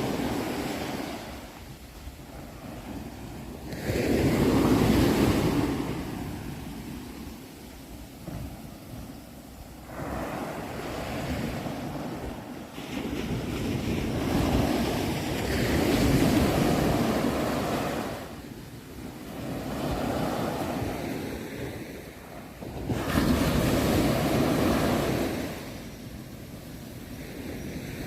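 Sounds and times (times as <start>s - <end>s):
sea waves breaking: 0.0s - 28.0s.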